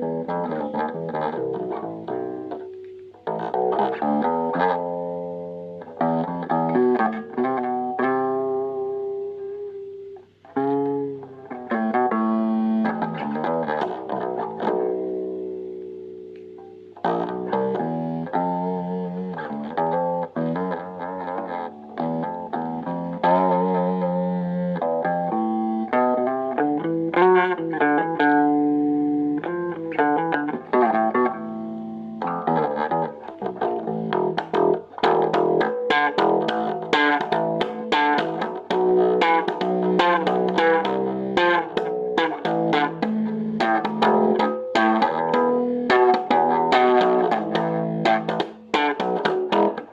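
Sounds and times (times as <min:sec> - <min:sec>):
electric bass guitar solo: 0:00.0 - 0:49.9.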